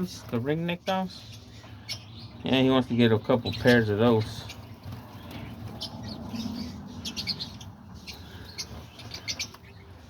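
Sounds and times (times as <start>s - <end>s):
cage birds chirping: 0.0s - 10.0s.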